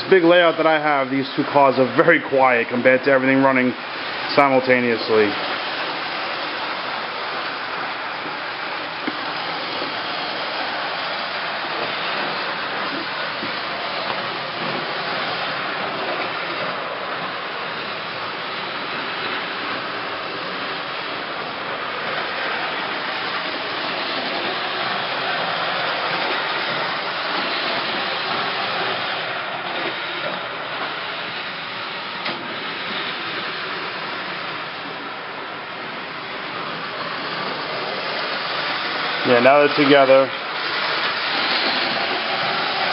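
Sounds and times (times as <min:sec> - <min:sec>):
model trains whirring rumble: 0:00.0 - 0:42.9.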